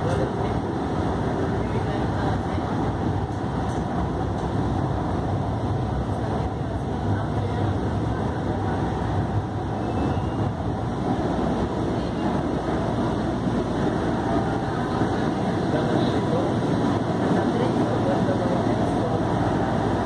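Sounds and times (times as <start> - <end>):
train cabin noise: 0.0 - 20.0
train wheels rumbling on rails: 0.0 - 20.0.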